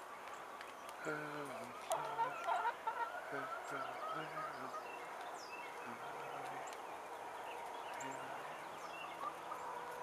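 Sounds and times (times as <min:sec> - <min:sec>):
steady outdoor hiss: 0:00.0 - 0:10.0
hens clucking: 0:01.0 - 0:10.0.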